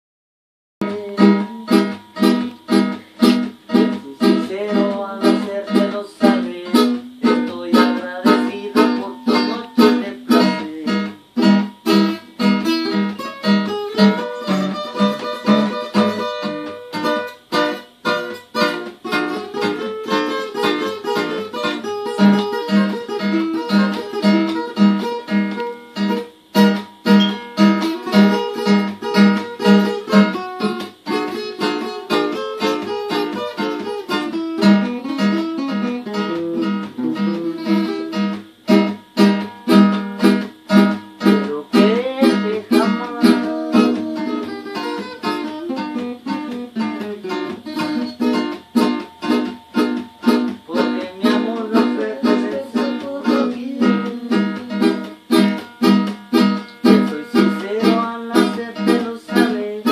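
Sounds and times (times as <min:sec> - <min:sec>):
acoustic guitars strumming: 0:00.8 - 0:59.9.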